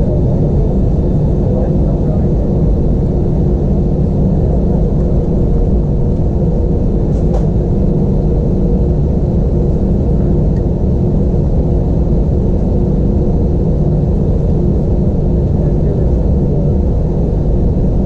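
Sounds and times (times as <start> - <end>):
aircraft engine rumble in cabin: 0.0 - 18.0.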